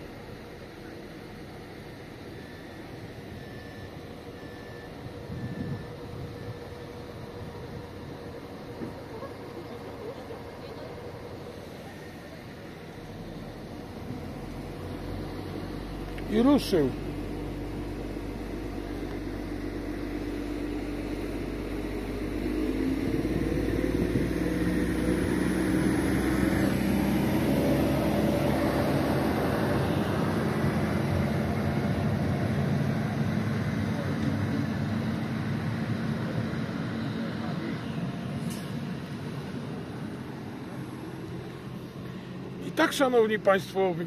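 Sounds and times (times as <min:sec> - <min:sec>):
diesel train engine: 0:00.0 - 0:44.0.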